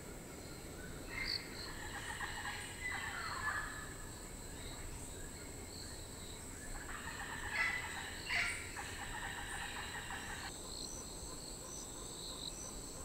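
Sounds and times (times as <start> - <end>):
insects droning: 0.0 - 13.0
insect fast pulsing trill: 0.4 - 13.0.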